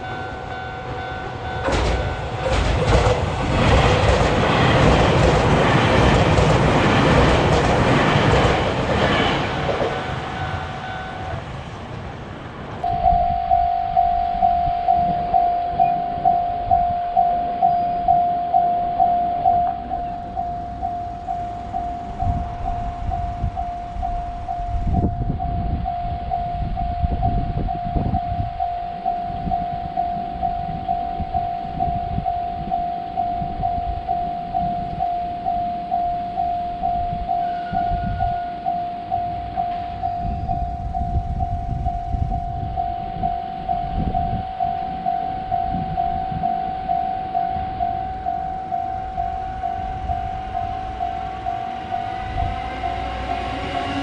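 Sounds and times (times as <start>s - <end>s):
railroad crossing bell pulsing: 0.0s - 11.8s, 12.8s - 54.0s.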